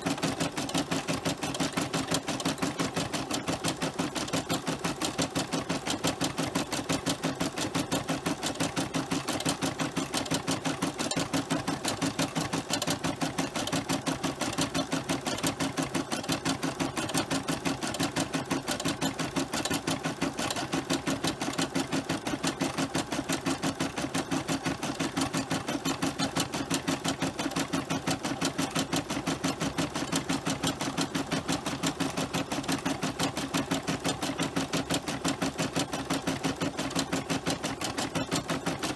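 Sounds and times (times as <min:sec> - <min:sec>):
embroidery machine needle clatter: 0:00.0 - 0:38.9.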